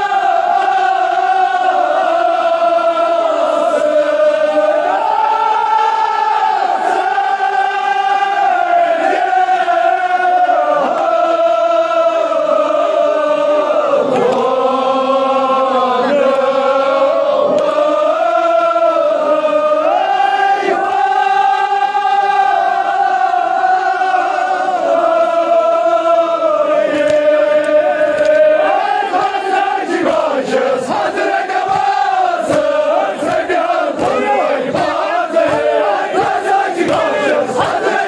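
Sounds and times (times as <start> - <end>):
crowd of men chanting: 0.0 - 38.0.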